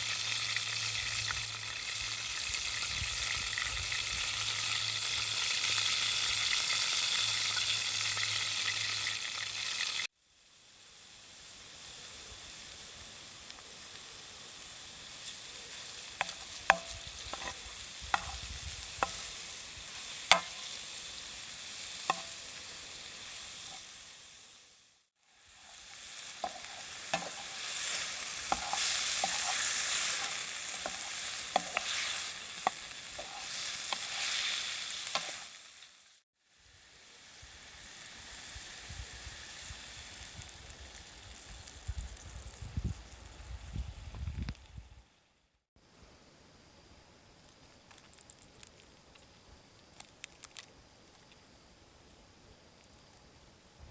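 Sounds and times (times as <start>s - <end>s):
food sizzling in a pan: 0.0s - 45.4s.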